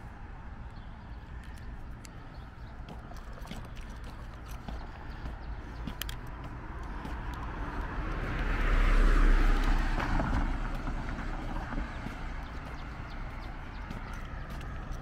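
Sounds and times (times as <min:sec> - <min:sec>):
footsteps on pavement: 0:01.5 - 0:15.0
car passing: 0:01.9 - 0:15.0.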